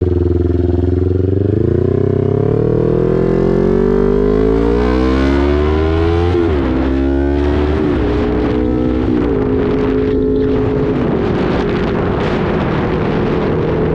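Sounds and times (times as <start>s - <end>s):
motorcycle engine accelerating: 0.0s - 13.9s.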